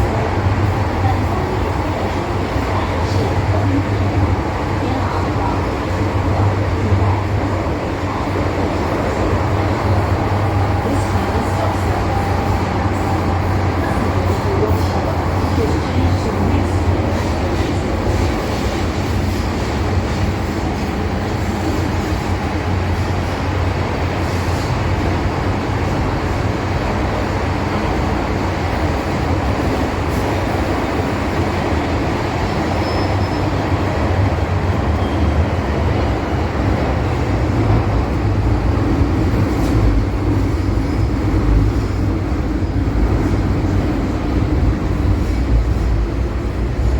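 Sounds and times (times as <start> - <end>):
train rumbling on rails: 0.0 - 46.9.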